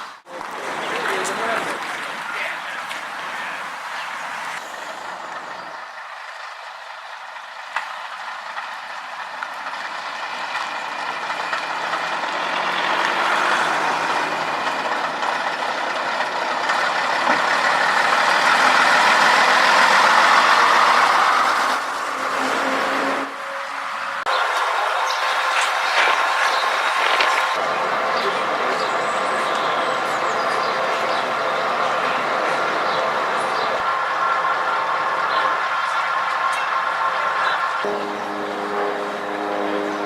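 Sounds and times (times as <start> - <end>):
train rumbling past: 0.0 - 40.0.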